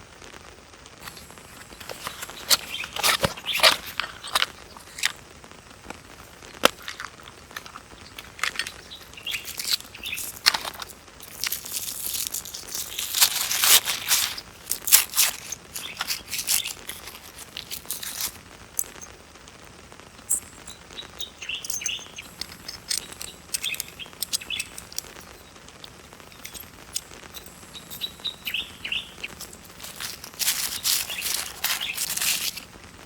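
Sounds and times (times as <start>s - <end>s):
rustling and crinkling: 1.0s - 19.1s, 20.3s - 33.0s.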